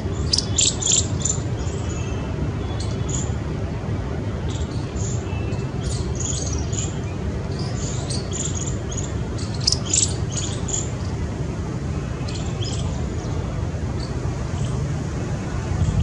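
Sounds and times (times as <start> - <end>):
birds chirping: 0.0 - 3.4, 4.4 - 11.2, 12.0 - 14.8.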